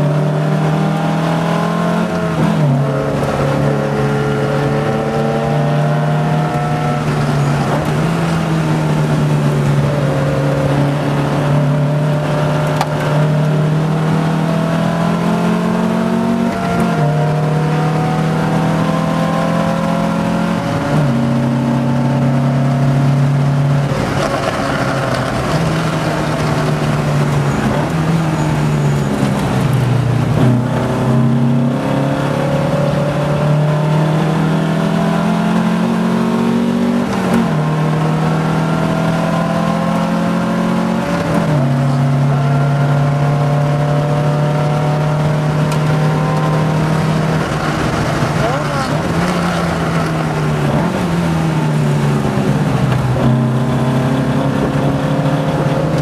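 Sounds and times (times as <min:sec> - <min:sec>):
race car engine revving through gears: 0:00.0 - 0:56.0.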